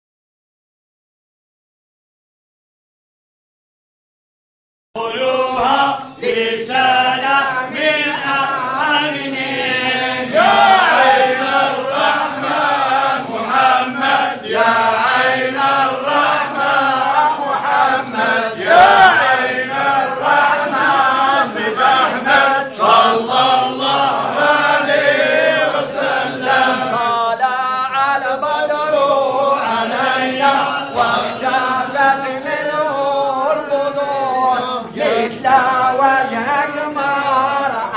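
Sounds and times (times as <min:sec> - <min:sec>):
men chanting in unison: 0:05.0 - 0:37.9.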